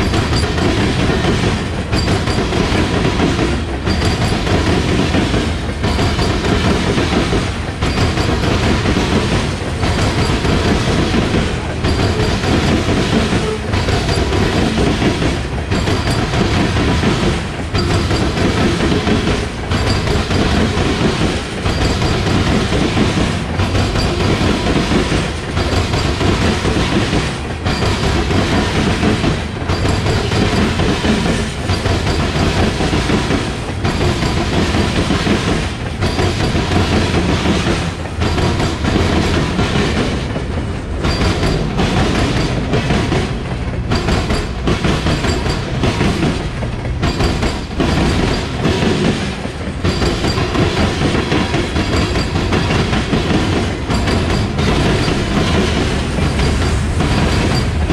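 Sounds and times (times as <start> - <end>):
freight train rumbling past: 0.0 - 57.9
wheels clacking over rail joints: 0.0 - 57.9.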